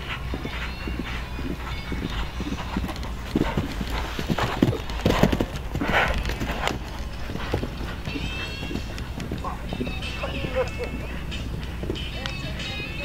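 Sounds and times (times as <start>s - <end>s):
horse hoofbeats on grass: 0.0s - 13.0s
steady low rumble: 0.0s - 13.0s.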